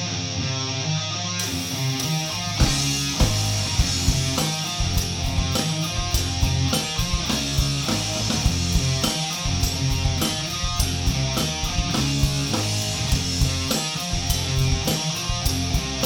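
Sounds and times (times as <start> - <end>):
electric guitar and bass riff: 0.0 - 16.0
drum hits: 2.6 - 15.8.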